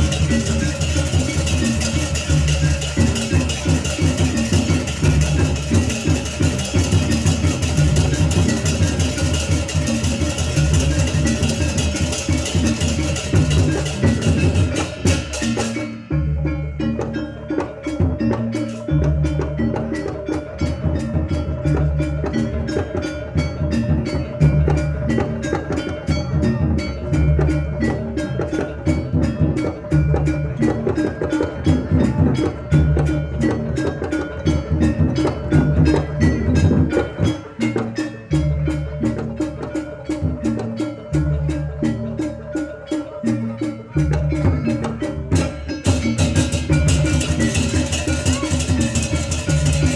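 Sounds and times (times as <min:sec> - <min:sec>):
deep drum patterns: 0:00.0 - 0:42.1, 0:43.9 - 0:49.9
gamelan music: 0:00.0 - 0:49.9
sharp struck percussion: 0:00.0 - 0:49.9.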